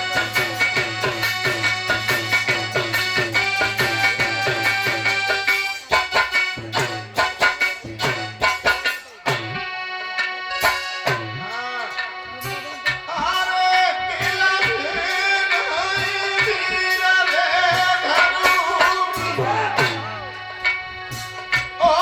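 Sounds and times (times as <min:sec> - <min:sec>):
reed-keyboard tones: 0:00.0 - 0:22.0
rhythmic drum strokes: 0:00.0 - 0:22.0.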